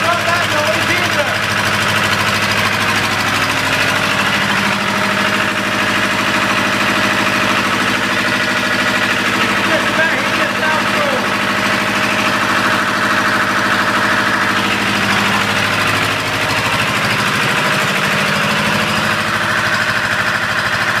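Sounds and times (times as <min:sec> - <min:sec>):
generator engine running: 0:00.0 - 0:21.0.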